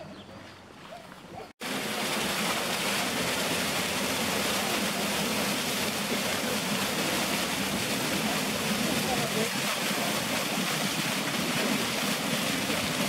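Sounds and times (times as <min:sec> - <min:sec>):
geyser water spouting and splashing: 0:01.6 - 0:13.0.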